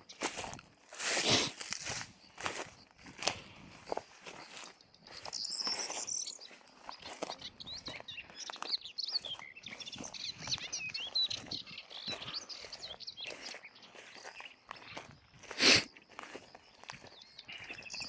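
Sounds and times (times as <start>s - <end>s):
footsteps on rough ground: 0.0s - 18.0s
small birds chirping: 0.0s - 18.0s.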